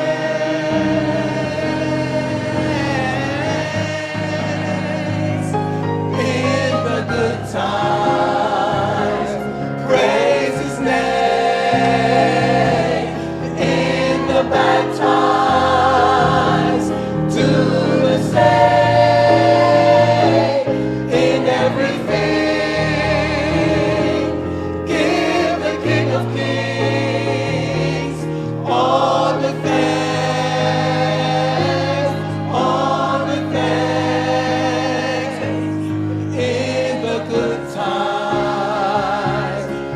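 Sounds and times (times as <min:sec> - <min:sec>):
choir singing: 0:00.0 - 0:39.9
low musical accompaniment: 0:00.0 - 0:39.9.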